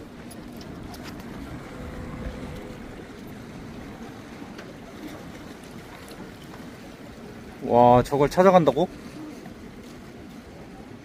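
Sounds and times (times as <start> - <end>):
wind and water rushing: 0.0 - 10.3.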